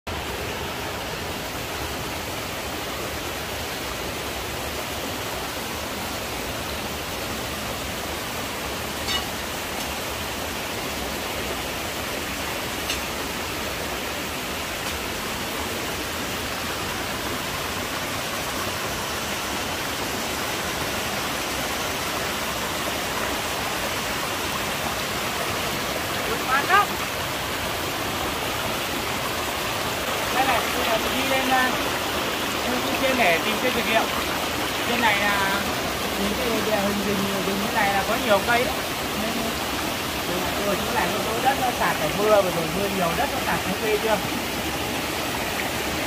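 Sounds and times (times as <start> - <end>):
stream rushing over boulders: 0.1 - 46.0.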